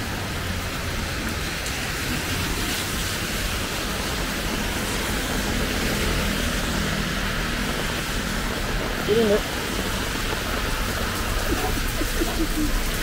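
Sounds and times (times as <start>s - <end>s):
rain hiss: 0.0s - 13.0s
traffic engines humming: 0.0s - 13.0s.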